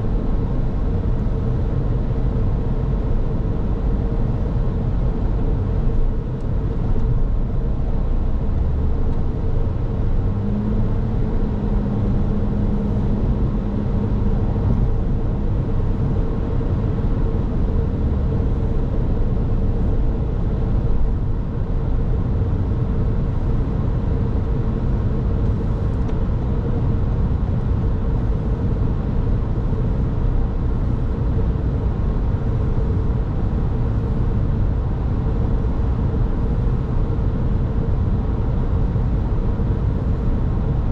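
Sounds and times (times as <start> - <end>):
car tyres and engine rumble: 0.0 - 40.9.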